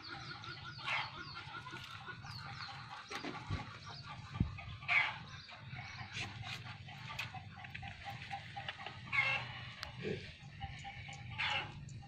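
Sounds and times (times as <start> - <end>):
birds chirping: 0.0 - 12.0
harsh bird calls: 0.0 - 12.0.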